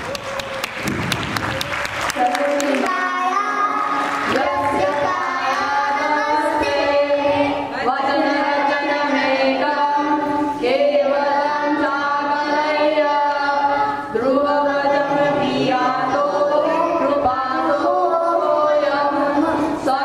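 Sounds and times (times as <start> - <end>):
group singing in unison: 2.2 - 20.0.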